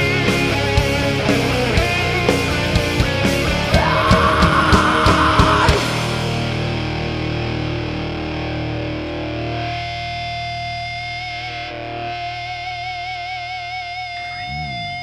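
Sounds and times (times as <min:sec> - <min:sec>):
rock band playing: 0:00.0 - 0:14.4
distorted electric guitar: 0:00.0 - 0:15.0.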